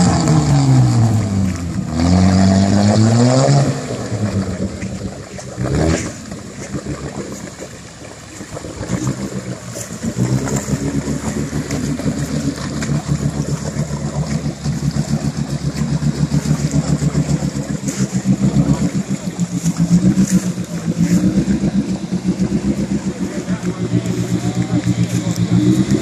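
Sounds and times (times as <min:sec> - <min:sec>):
engine working under load: 0:00.0 - 0:26.0.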